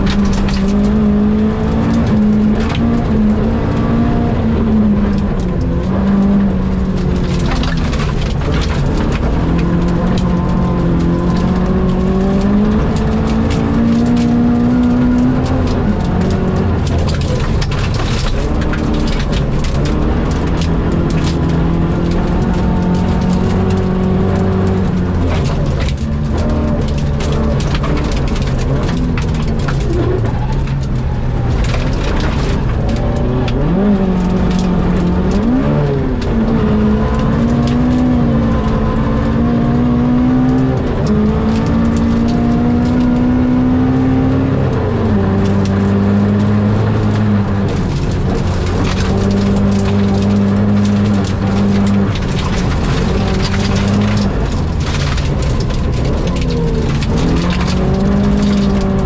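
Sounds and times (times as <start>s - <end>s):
car rattling and knocking: 0.0s - 59.0s
rally car engine revving: 0.0s - 59.0s.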